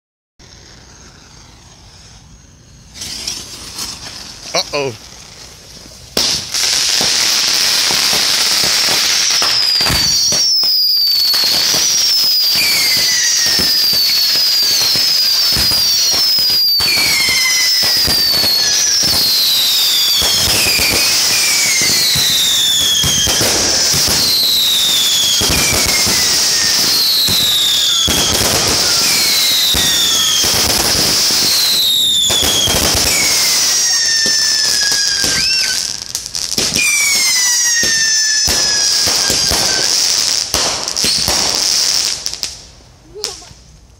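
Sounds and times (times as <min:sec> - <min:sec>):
firework whistles falling in pitch: 0:00.4 - 0:05.4, 0:06.2 - 0:42.2
firework bangs: 0:00.4 - 0:43.8
fireworks crackling: 0:00.4 - 0:43.9.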